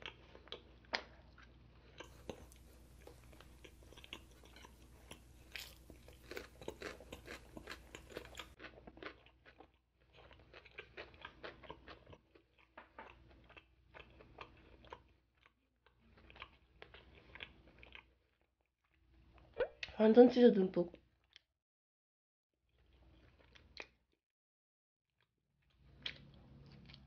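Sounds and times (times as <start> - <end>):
chewing crunchy food: 0.0 - 19.8, 20.9 - 21.5, 22.7 - 24.2, 25.2 - 27.0.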